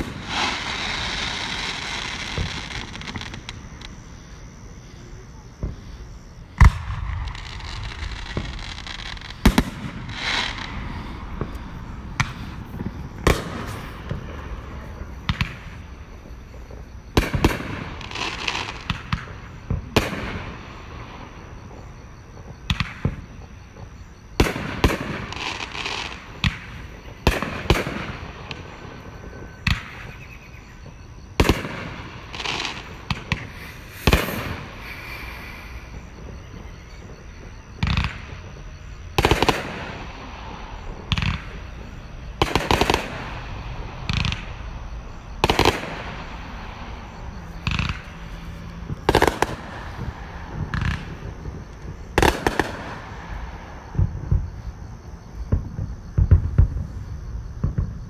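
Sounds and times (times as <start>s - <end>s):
fireworks crackling: 0.0s - 54.9s
fireworks bangs: 0.0s - 58.0s.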